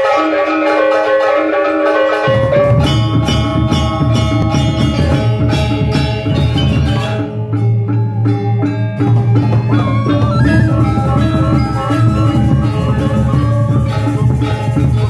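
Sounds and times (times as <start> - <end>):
metallophones ringing: 0.0 - 15.0
low percussion: 2.2 - 15.0.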